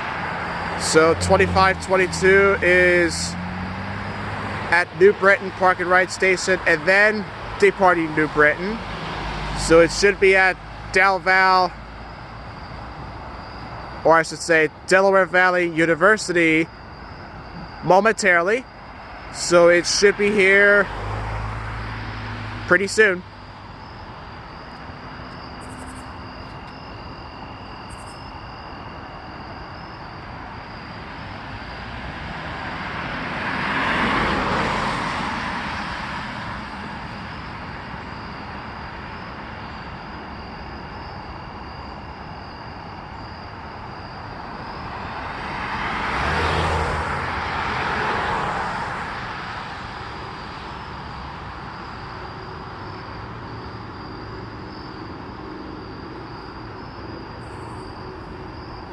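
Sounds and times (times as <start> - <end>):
high insect chirring: 0.0 - 58.9
vehicles passing: 0.0 - 58.9.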